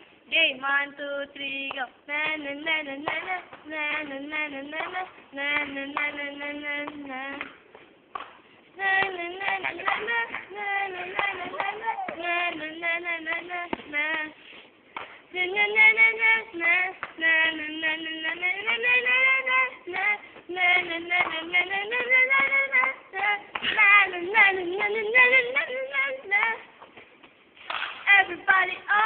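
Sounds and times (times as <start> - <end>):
upbeat pop dance song: 0.3 - 26.8, 28.0 - 29.0.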